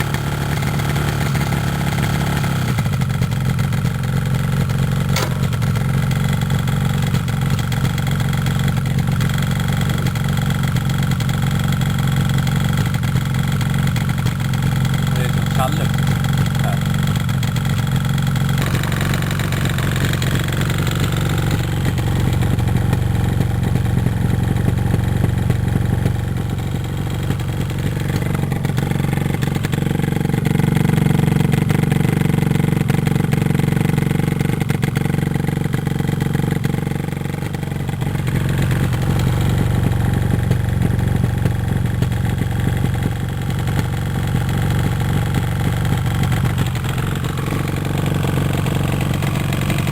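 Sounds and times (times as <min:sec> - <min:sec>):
two-stroke engine running: 0:00.0 - 0:49.9.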